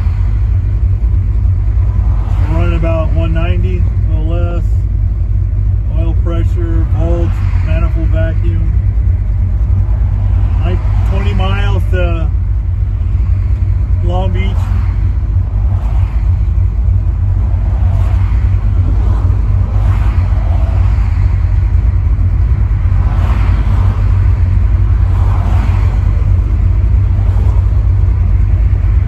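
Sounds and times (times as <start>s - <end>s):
engine and exhaust drone: 0.0s - 29.0s
road and wind noise: 0.0s - 29.0s.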